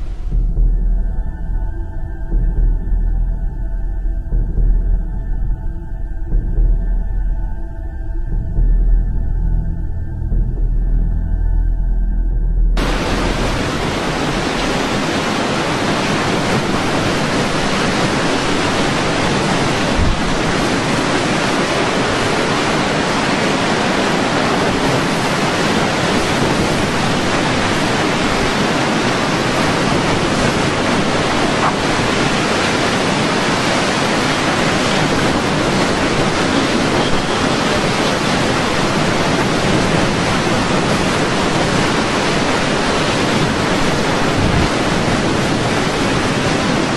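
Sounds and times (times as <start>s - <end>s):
storm wind and water rushing: 0.0s - 46.9s.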